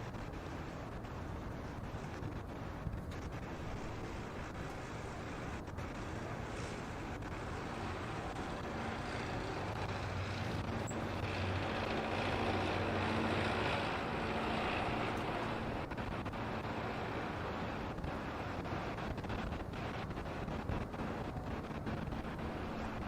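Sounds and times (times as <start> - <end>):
vehicle passing with low hum: 0.0 - 23.0
wind buffeting microphone: 0.0 - 23.0.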